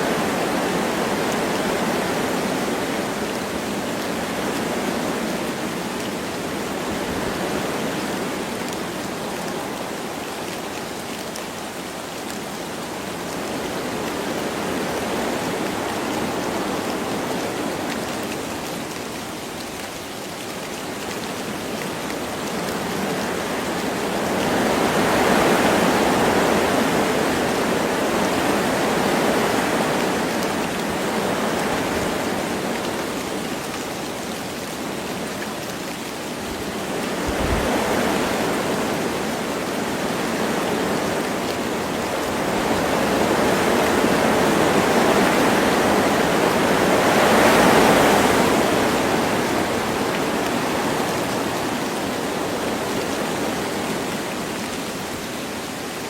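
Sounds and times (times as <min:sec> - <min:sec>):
light rain: 0:00.0 - 0:56.0
wind blowing through trees: 0:00.0 - 0:56.0.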